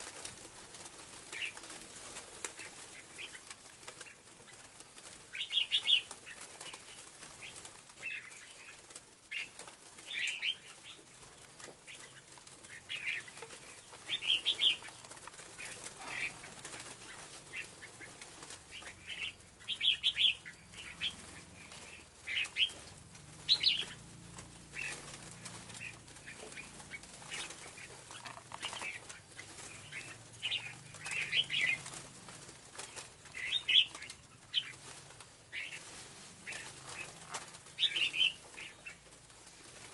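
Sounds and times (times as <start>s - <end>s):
bird chirping: 2.6s - 39.2s.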